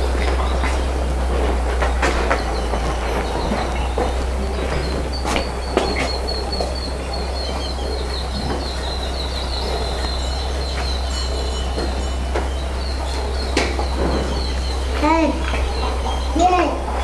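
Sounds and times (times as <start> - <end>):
bird chirping: 0.0 - 17.0
loud rumbling background noise: 0.0 - 17.0.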